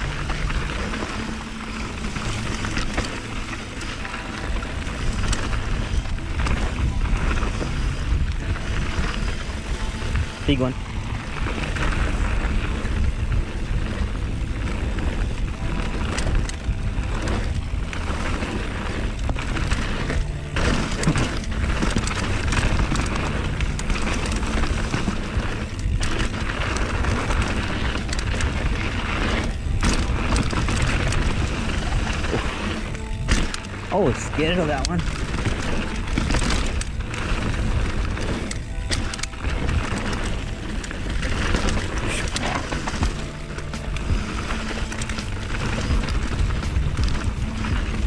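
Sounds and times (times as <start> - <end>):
bike knocks and rattles: 0.0 - 48.0
tyres rolling on dirt: 0.0 - 48.0
wind noise on microphone: 0.0 - 48.0.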